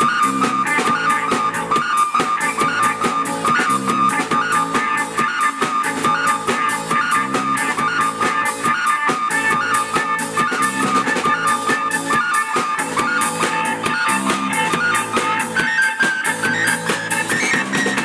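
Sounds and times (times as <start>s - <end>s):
drums: 0.0s - 18.0s
electric guitar: 0.0s - 18.0s.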